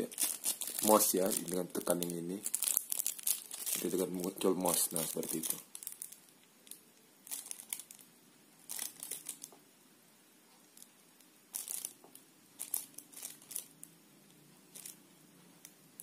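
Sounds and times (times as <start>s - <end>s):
crinkling rustling noise: 0.0s - 9.6s, 10.6s - 13.9s, 14.7s - 15.0s
faint low hum: 0.0s - 16.0s.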